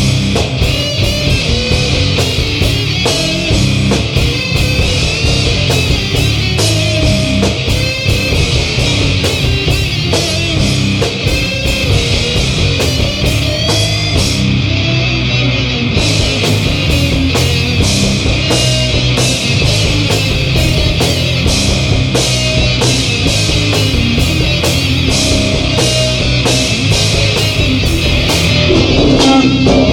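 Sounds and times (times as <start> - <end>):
drum kit: 0.0 - 14.6, 16.0 - 29.9
bass riff: 0.0 - 29.9
distorted electric guitar: 0.0 - 29.9.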